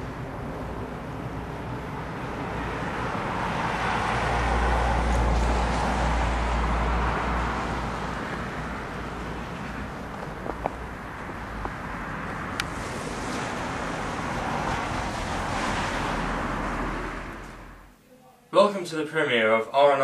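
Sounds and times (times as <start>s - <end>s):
vehicle passing: 0.0s - 17.9s
low traffic rumble: 0.0s - 18.0s.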